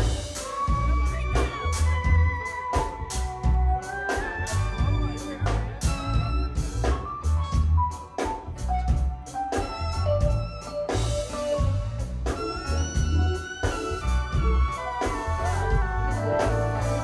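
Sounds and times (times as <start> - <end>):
drum kit beat: 0.0 - 17.0
electric bass: 0.0 - 17.0
lead line of held notes: 0.0 - 17.0.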